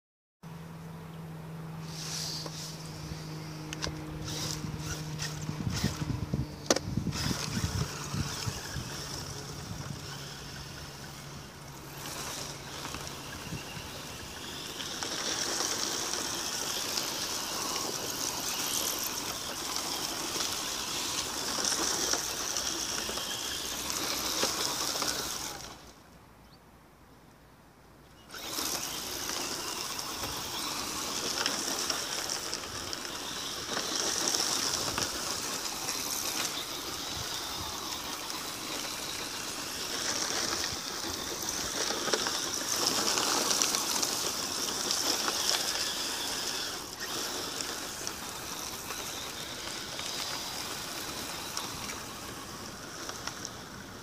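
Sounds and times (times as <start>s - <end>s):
rc car motor whine: 0.8s - 26.1s, 28.1s - 54.0s
tyres spraying grit: 1.8s - 26.0s, 28.3s - 54.0s.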